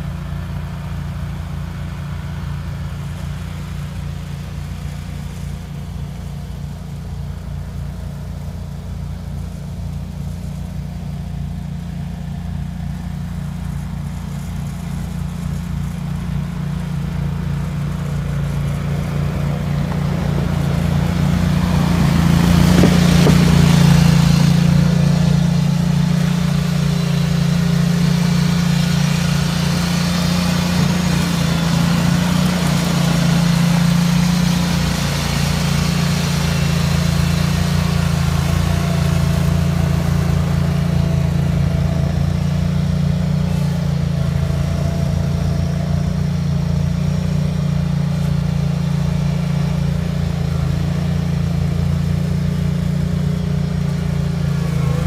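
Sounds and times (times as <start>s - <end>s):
tractor engine running under load: 0.0s - 55.0s
rushing hiss: 0.1s - 55.0s.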